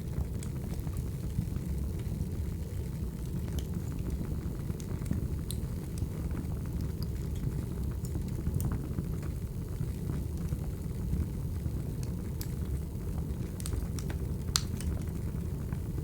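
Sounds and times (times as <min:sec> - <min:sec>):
low rumble of flames: 0:00.0 - 0:16.0
firewood crackling and popping: 0:00.1 - 0:16.0.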